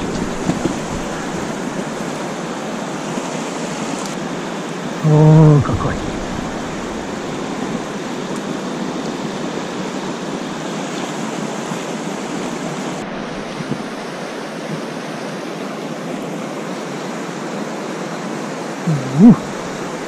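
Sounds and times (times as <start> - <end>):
river water over rapids: 0.0 - 20.0.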